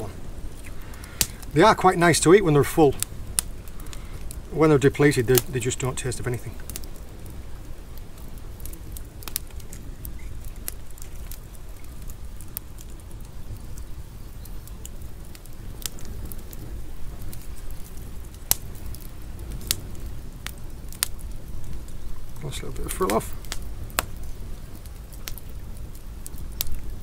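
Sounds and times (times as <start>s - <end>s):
low wind rumble: 0.0s - 27.0s
wood fire crackling and popping: 0.0s - 27.0s.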